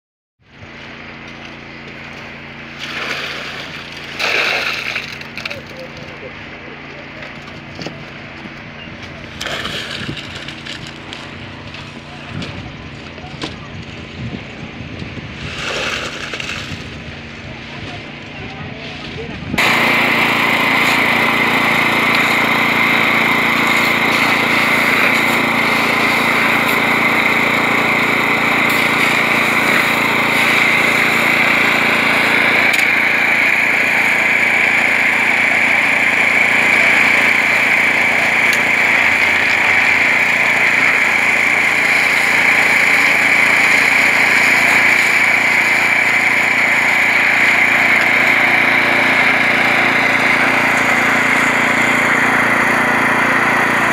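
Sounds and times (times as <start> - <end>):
small gasoline engine running: 0.4 - 53.9.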